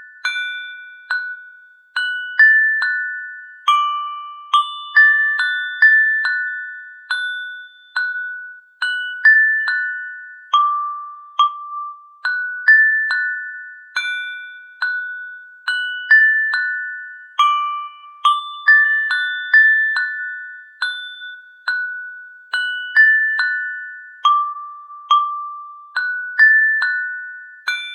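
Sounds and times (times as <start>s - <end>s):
glockenspiel-like mallet melody: 0.0s - 27.9s.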